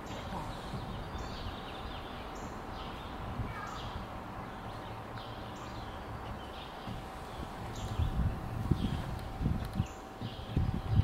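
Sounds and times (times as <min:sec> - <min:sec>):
outdoor ambience hiss: 0:00.0 - 0:11.0.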